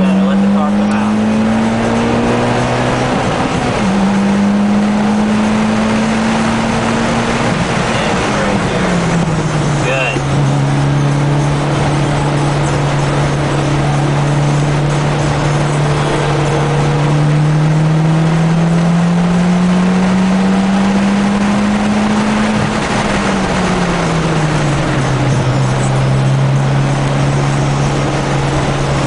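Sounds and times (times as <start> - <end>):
car engine accelerating: 0.0 - 29.0
wind and road noise: 0.0 - 29.0.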